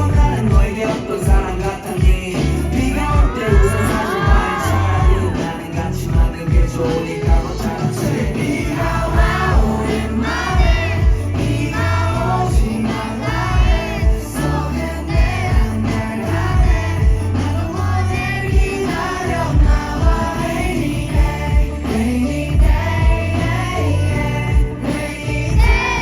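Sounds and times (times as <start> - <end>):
kick drum and heavy bass beat: 0.0 - 23.6, 24.2 - 24.9, 25.5 - 26.0
person singing: 0.0 - 26.0.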